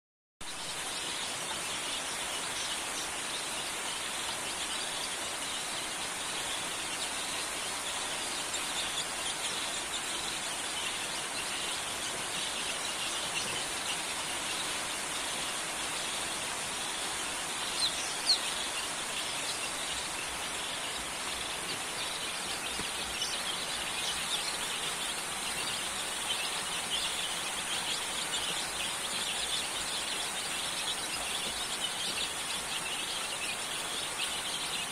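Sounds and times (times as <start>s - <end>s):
chicks peeping: 0.4s - 34.9s
steady high hiss: 0.4s - 34.9s.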